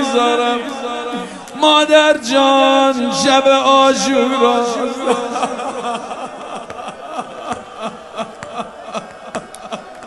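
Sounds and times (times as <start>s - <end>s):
crowd weeping and sobbing: 0.0s - 10.0s.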